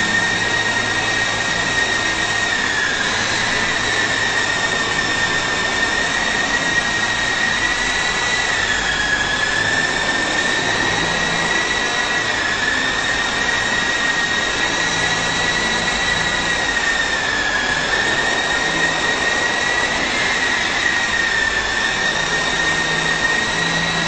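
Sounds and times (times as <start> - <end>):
toy helicopter rotors whining: 0.0 - 24.0.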